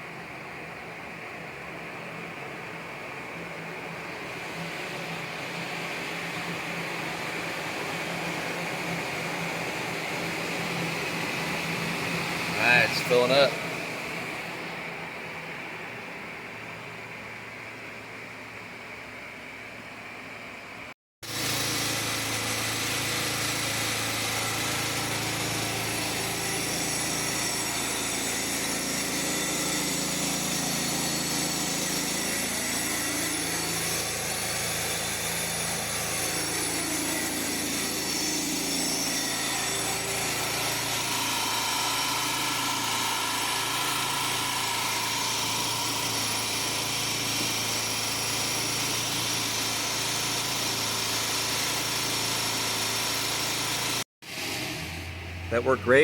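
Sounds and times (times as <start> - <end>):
pressure washer engine running: 3.7 - 15.0, 21.2 - 56.0.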